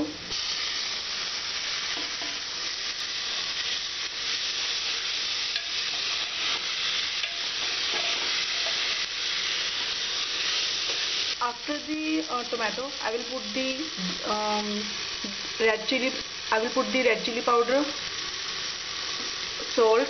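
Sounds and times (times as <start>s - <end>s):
tomatoes sizzling in hot oil: 0.0s - 20.0s.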